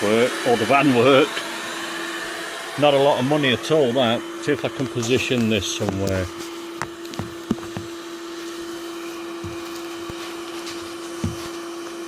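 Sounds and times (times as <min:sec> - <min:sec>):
vacuum cleaner humming: 0:00.0 - 0:12.0.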